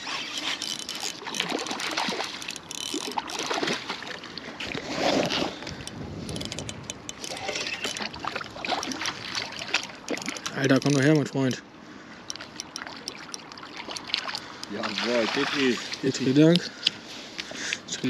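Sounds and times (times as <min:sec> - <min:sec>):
fish thrashing in water: 0:00.0 - 0:11.1, 0:12.4 - 0:16.1.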